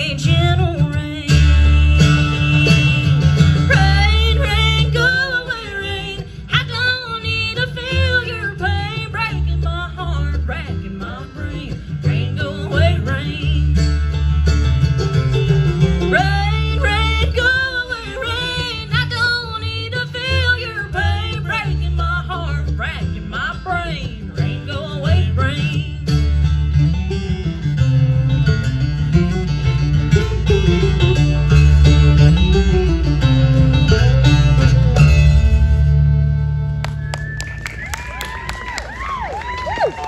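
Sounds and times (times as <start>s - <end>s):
guitar: 0.0s - 40.0s
picked banjo: 0.0s - 40.0s
steady bass: 0.0s - 40.0s.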